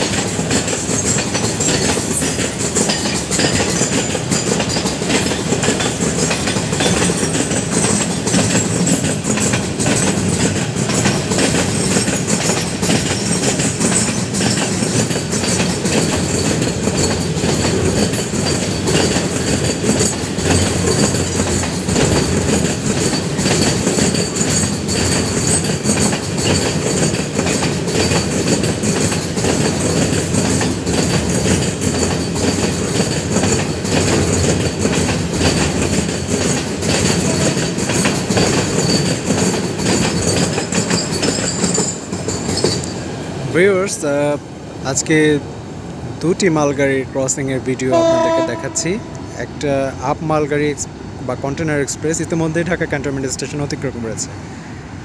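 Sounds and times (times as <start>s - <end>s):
freight train wheels rumbling on rails: 0.0s - 55.0s
wheels clickety-clack on rails: 0.0s - 55.0s.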